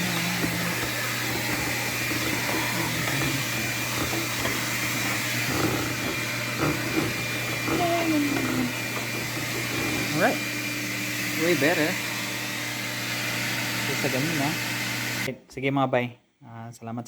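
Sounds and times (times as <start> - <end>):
vacuum cleaner running: 0.0 - 15.3.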